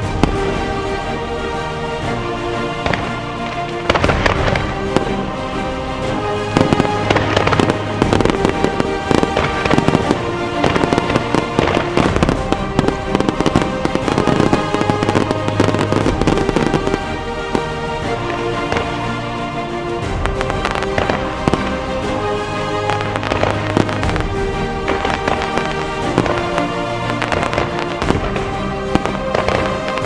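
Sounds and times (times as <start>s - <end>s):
fireworks bursting and crackling: 0.0s - 1.2s, 2.6s - 19.2s, 20.0s - 30.0s
music with sustained tones: 0.0s - 30.0s.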